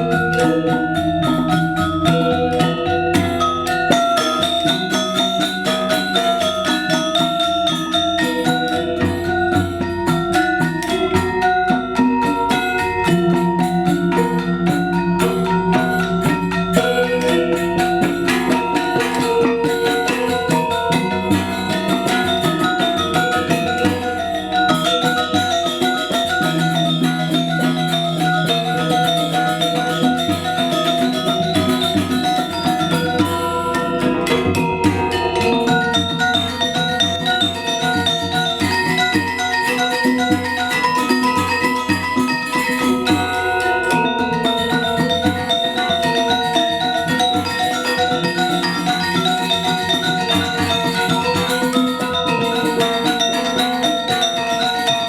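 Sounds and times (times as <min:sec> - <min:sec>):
bronze metallophones ringing: 0:00.0 - 0:55.0
drums: 0:00.0 - 0:55.0
held lower tones: 0:00.0 - 0:55.0.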